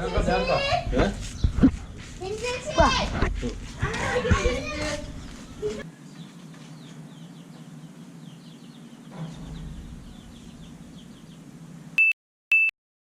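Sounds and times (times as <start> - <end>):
faint birds chirping: 0.0 - 2.8, 3.7 - 12.0
steady low hum: 0.0 - 12.0.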